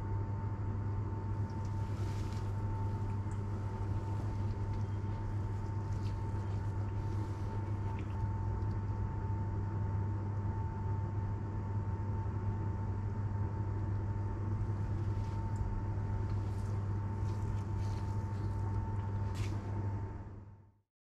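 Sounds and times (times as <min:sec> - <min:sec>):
low machine hum: 0:00.0 - 0:20.8
thin steady whine: 0:00.6 - 0:20.4.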